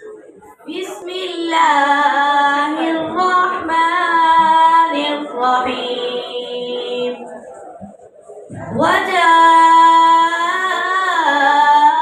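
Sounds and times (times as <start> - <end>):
boy reciting melodically: 0.4 - 12.0.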